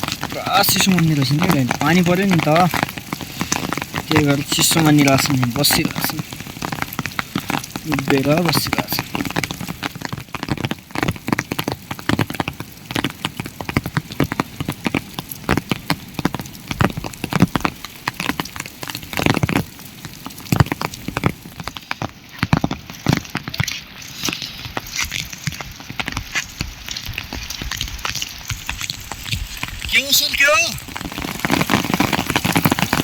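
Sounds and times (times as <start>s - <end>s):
rain drops tapping on surface: 0.0s - 33.0s.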